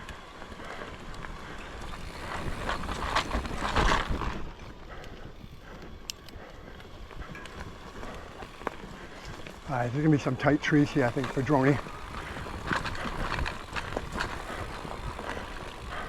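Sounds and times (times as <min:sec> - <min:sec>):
bike clattering over rough ground: 0:00.0 - 0:16.0
bike tyres on dirt: 0:00.0 - 0:16.0.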